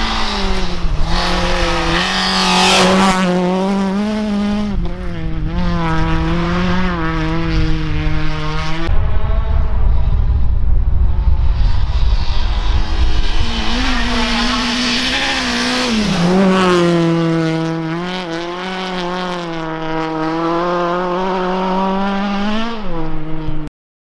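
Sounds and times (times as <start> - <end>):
rally car engine at high revs: 0.0 - 10.2, 11.1 - 23.7.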